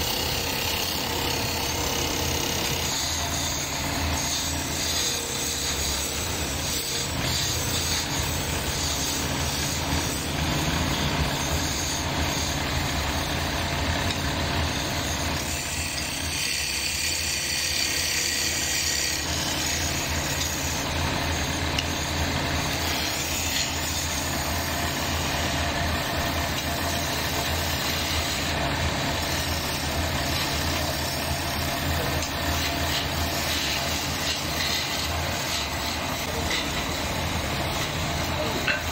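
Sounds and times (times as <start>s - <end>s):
tool rasping on spinning wood: 0.0s - 38.9s
wood lathe motor hum: 0.0s - 38.9s.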